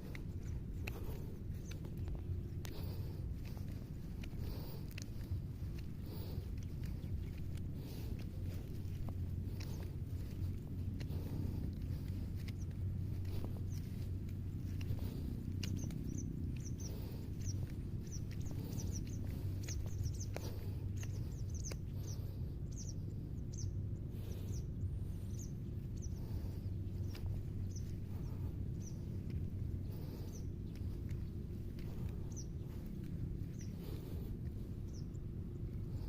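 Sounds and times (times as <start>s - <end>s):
small birds chirping: 0.0s - 36.0s
steady low rumble: 0.0s - 36.0s.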